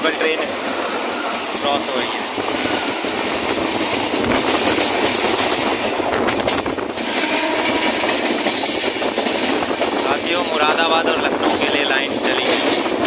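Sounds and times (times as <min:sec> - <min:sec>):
passing train: 0:00.0 - 0:13.0
train wheels rushing on rails: 0:00.0 - 0:13.0
wheels clickety-clack: 0:00.1 - 0:13.0.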